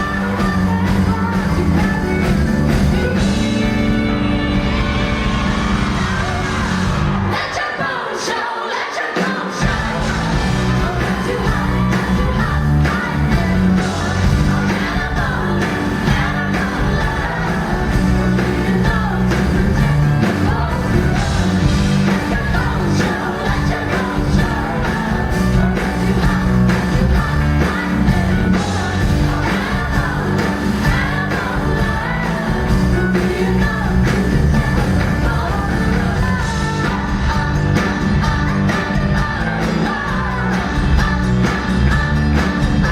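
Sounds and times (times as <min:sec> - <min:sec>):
woman singing: 0:00.0 - 0:05.5, 0:07.3 - 0:42.9
live pop-rock band: 0:00.0 - 0:42.9.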